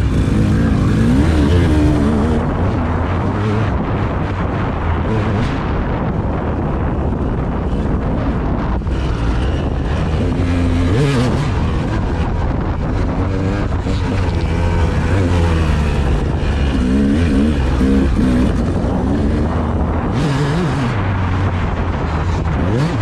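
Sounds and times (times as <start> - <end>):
vehicle engine revving: 0.0 - 23.0
wind buffeting on microphone: 0.0 - 23.0.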